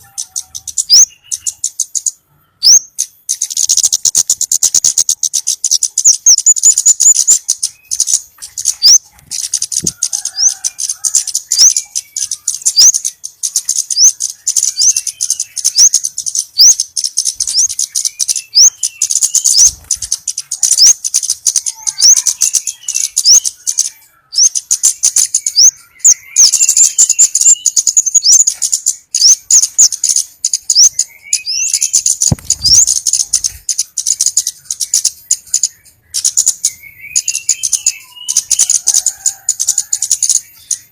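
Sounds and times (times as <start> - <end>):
lower twittering bird chirps: 0.0 - 40.9.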